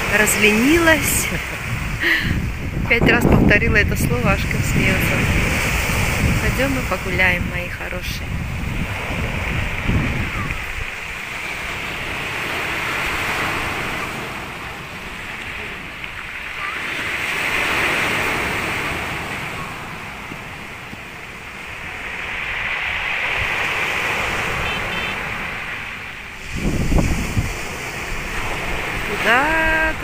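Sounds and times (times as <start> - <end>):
waves breaking on pebble beach: 0.0 - 30.0.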